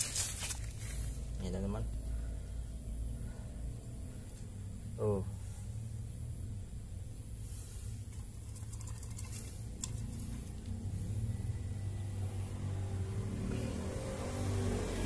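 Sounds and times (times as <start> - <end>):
low motor engine rumble: 0.0 - 15.0.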